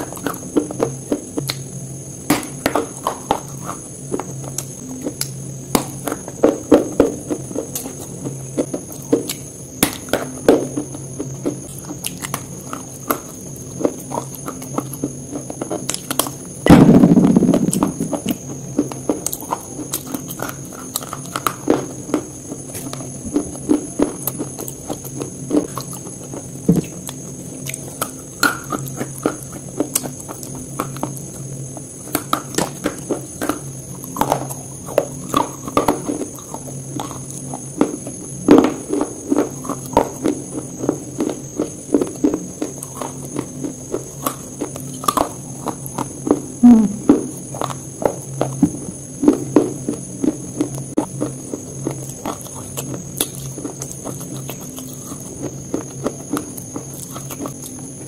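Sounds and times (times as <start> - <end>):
crunching chewing of wafer: 0.0 - 58.0
faint low hum: 0.0 - 58.0.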